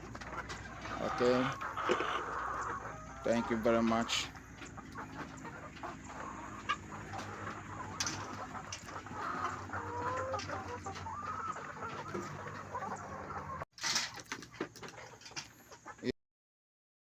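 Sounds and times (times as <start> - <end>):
young chickens clucking and chirping: 0.0 - 16.1.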